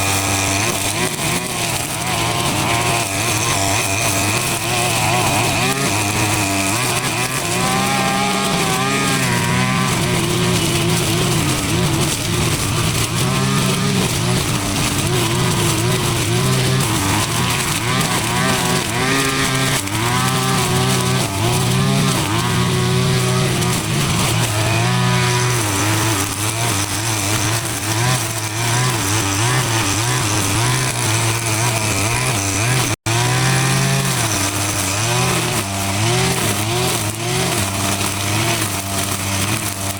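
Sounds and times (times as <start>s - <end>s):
small petrol engine revving: 0.0s - 39.9s.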